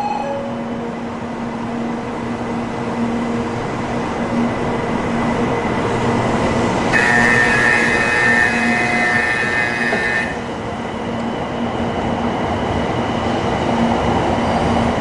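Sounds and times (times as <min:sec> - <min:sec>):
high-speed train rumble and hum: 0:00.0 - 0:15.0.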